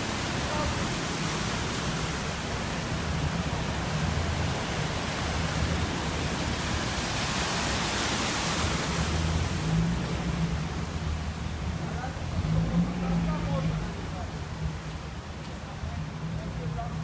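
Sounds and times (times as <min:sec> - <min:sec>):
cars driving through floodwater: 0:00.0 - 0:17.0.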